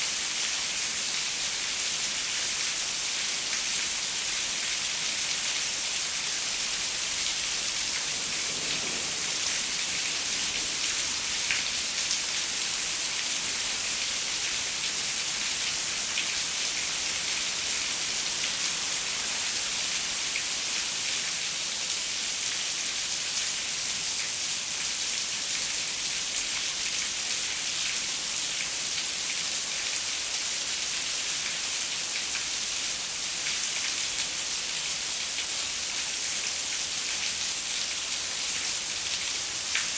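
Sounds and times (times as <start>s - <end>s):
rain on a window: 0.1s - 39.9s.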